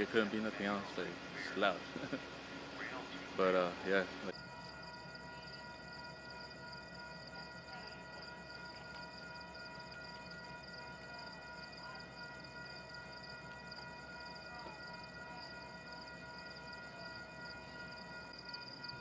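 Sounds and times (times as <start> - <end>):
train drone with constant tones: 0.0 - 19.0.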